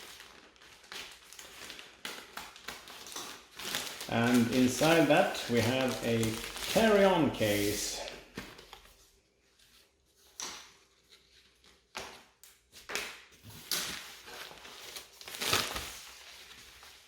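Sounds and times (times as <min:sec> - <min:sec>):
plastic packaging rustling: 0:00.0 - 0:17.0.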